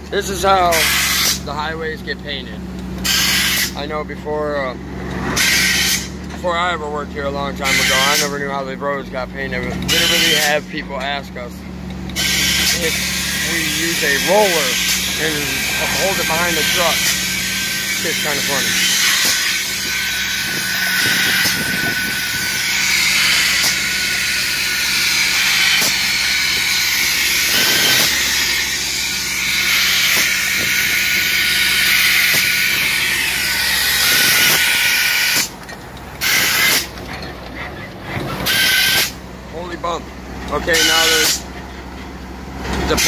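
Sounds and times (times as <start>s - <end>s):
truck engine humming: 0.0s - 43.0s.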